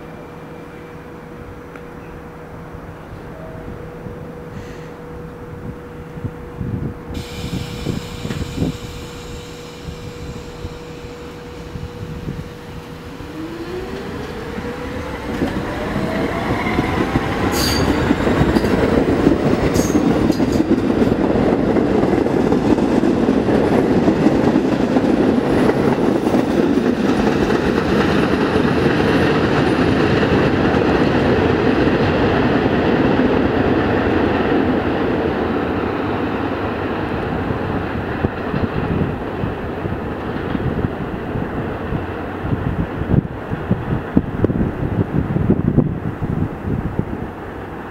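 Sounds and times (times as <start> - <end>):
subway traction motors whining: 0.0 - 47.9
train wheels rumbling over rails: 4.2 - 47.9.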